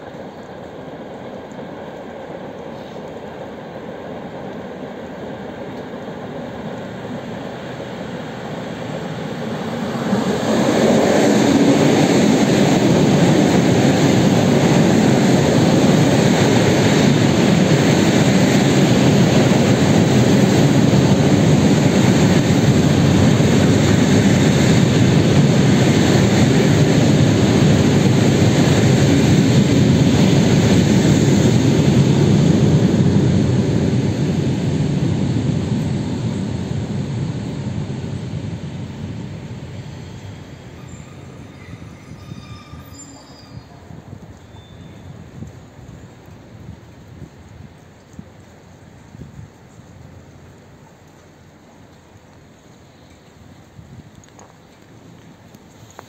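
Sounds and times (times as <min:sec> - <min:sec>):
electric train passing: 0:00.0 - 0:47.1.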